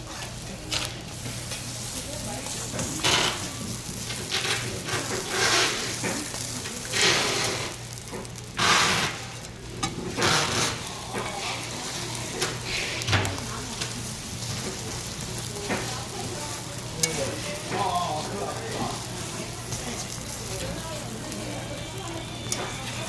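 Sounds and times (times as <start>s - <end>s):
batter sizzling in oil: 0.0s - 23.0s.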